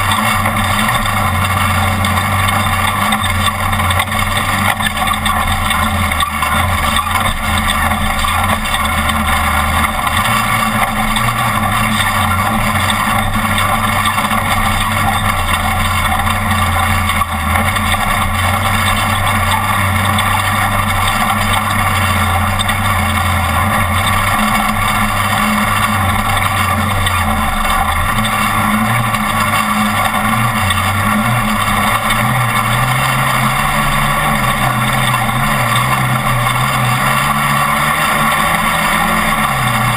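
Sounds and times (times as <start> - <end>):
rattling tyres and wind: 0.0 - 39.9
truck engine revving: 0.0 - 39.9.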